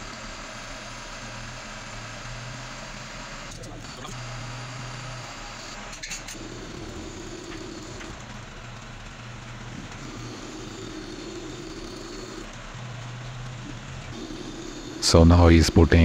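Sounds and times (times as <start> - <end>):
lathe running with low hum: 0.0 - 16.0.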